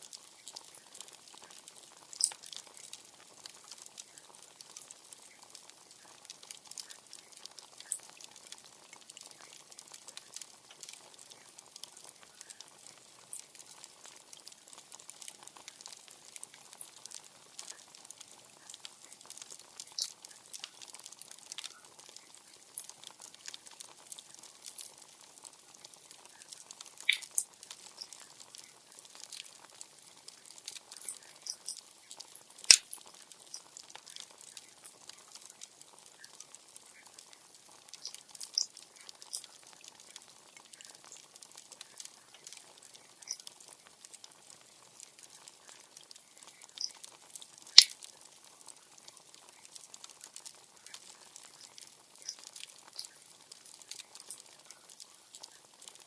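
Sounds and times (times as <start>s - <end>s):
bonfire crackling: 0.0s - 56.0s
faint steady hiss: 0.0s - 56.0s.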